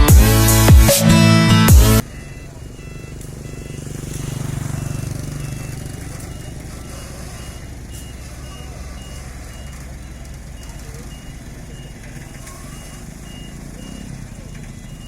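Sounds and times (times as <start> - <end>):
diesel engine running: 0.0 - 15.0
vehicle reversing alarm beeping: 0.0 - 15.0.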